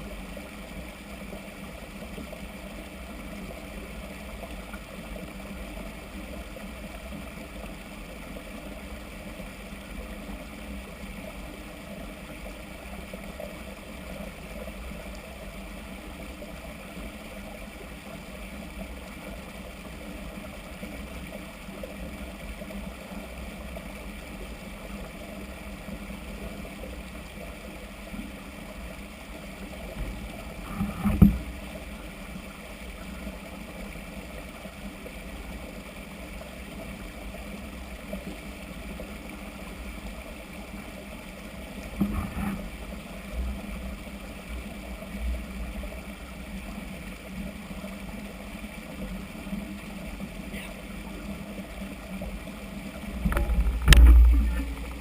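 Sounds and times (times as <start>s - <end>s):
low rumble with hiss: 0.0s - 55.0s.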